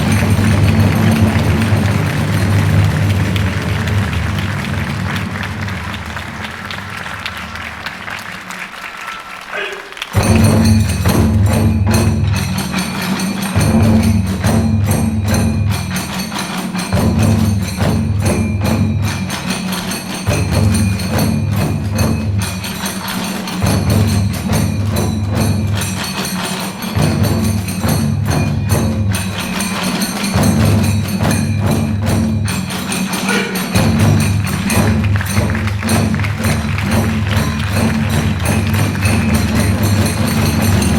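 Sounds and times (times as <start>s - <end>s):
hand cymbals clashing: 0.0s - 6.2s, 10.1s - 40.9s
taiko drums: 0.0s - 40.9s.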